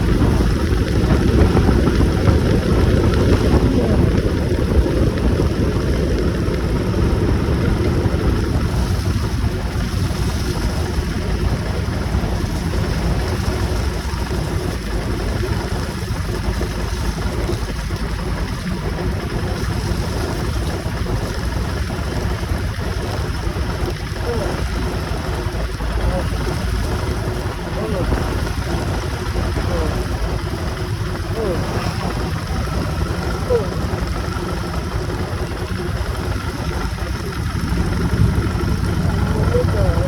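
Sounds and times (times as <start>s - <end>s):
motorcycle engine and road rumble: 0.0s - 40.0s
wind buffeting microphone: 0.0s - 40.0s.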